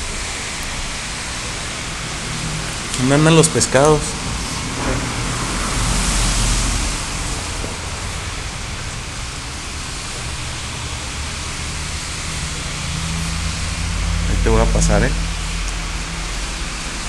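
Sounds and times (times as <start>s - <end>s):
aeration bubbling: 0.0s - 17.0s
rushing aquarium water: 0.0s - 17.0s.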